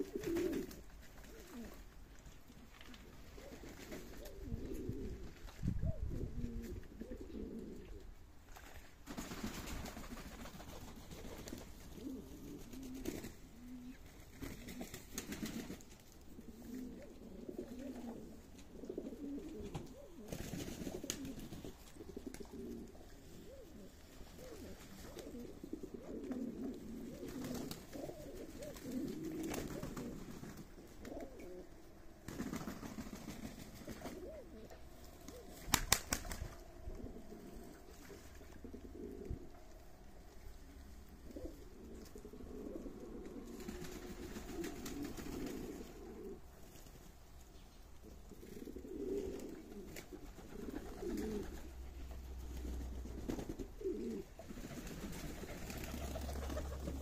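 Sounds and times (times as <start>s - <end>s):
pigeons cooing: 0.0s - 8.2s, 9.6s - 57.0s.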